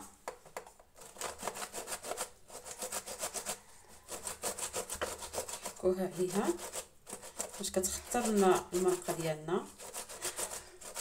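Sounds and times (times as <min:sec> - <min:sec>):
tomato scraping on plastic grater: 0:01.0 - 0:11.0.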